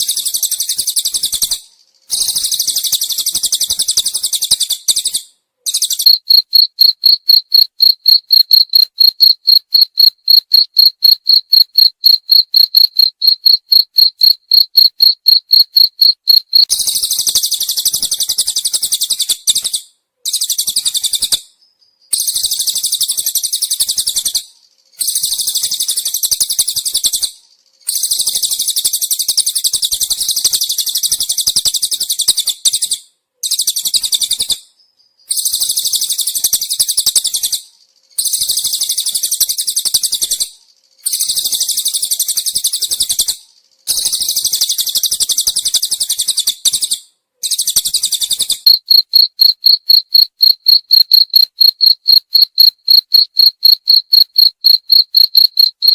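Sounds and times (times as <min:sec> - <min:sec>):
cricket chirping: 0:00.0 - 0:55.9.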